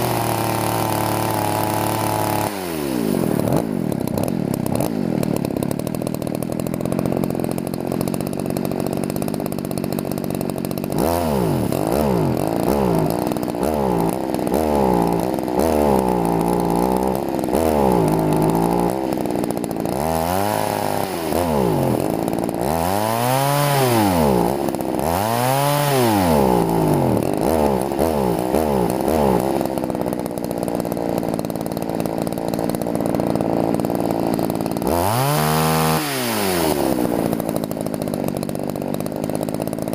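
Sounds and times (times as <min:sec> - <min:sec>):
chainsaw engine idling and revving: 0:00.0 - 0:39.9.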